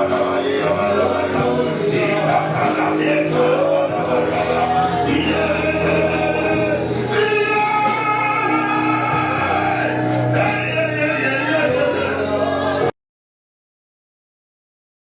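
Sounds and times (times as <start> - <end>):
gospel group singing: 0.0 - 12.9
instrumental accompaniment: 0.0 - 12.9.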